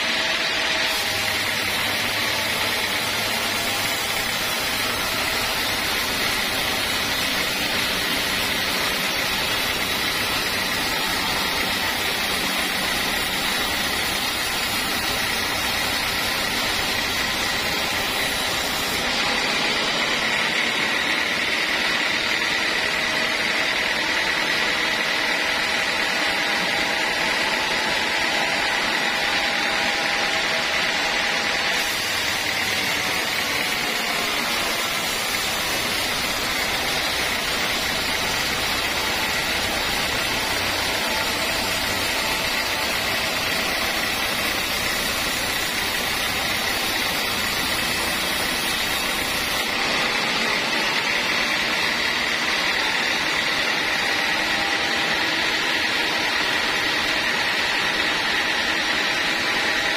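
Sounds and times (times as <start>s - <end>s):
band saw blade whining: 0.0s - 59.9s.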